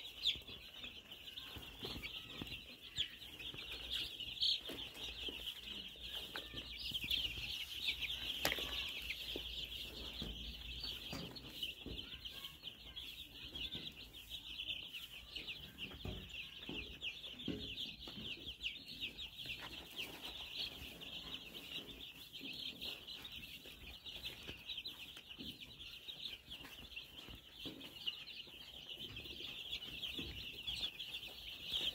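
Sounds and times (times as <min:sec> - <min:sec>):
baby chicks peeping: 0:00.0 - 0:31.9.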